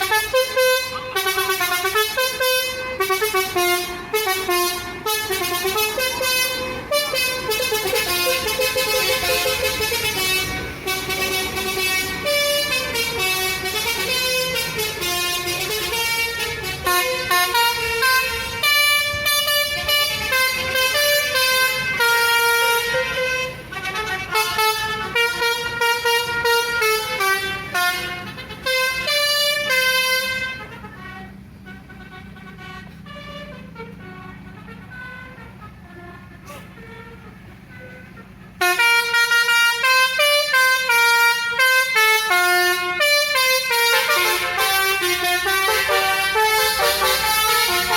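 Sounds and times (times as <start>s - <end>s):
air horn playing a tune: 0.0s - 47.9s
low engine hum: 0.0s - 47.9s.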